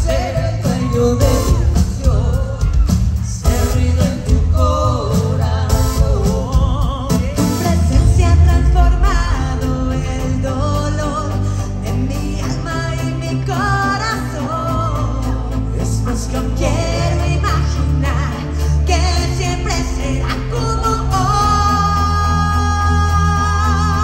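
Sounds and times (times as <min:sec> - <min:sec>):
band with heavy bass line: 0:00.0 - 0:24.0
person singing with vibrato: 0:00.0 - 0:24.0.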